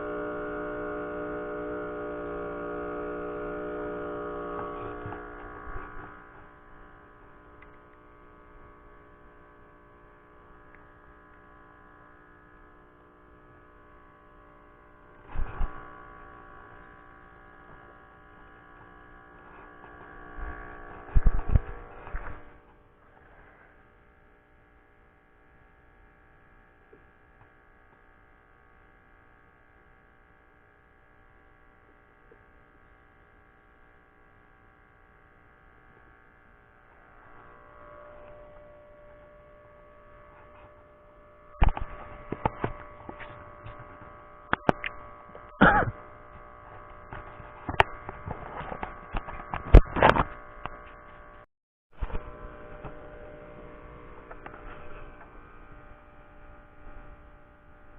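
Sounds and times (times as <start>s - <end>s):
steady tonal hum: 0.0s - 57.9s.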